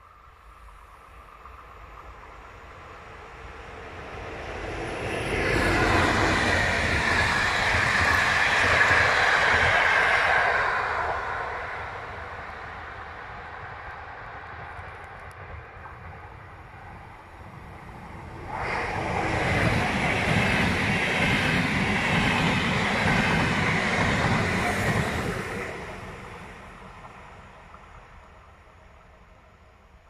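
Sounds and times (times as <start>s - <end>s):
train passing at speed: 0.0s - 30.0s.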